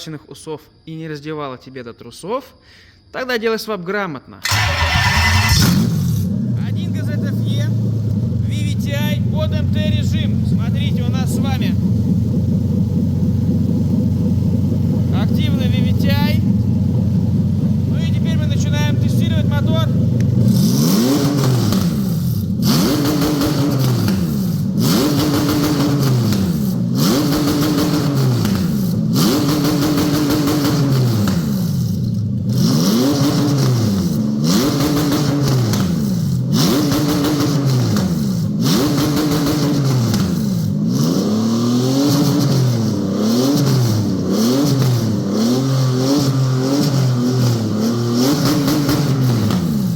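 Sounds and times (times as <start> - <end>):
engine free-revving: 4.4 - 8.6, 9.5 - 49.9.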